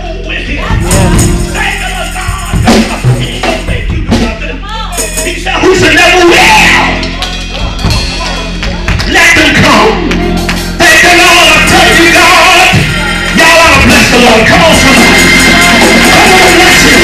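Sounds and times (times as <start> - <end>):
gospel music with singing: 0.0 - 17.0.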